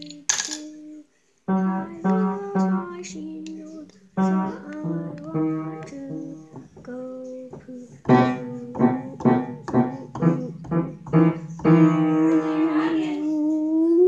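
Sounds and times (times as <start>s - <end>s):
piano-toned keyboard notes: 1.5s - 14.0s.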